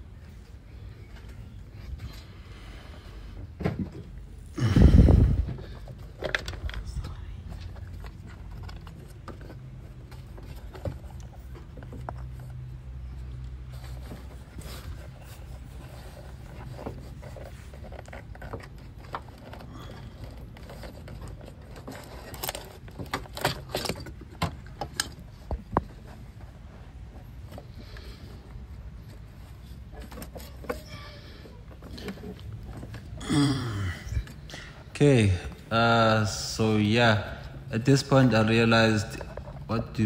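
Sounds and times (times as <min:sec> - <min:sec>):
rubbing and scraping handling noise: 0:00.0 - 0:40.0.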